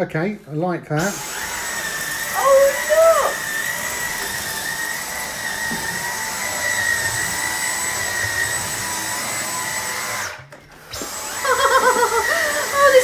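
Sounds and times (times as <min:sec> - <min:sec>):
vacuum cleaner motor whine: 0:01.0 - 0:13.0.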